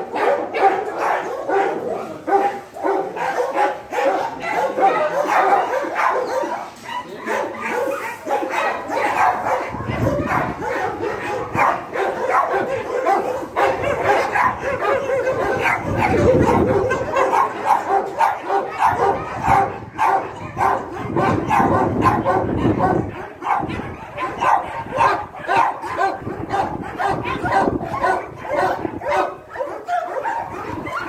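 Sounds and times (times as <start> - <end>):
dogs barking and yipping: 0.0 - 31.0.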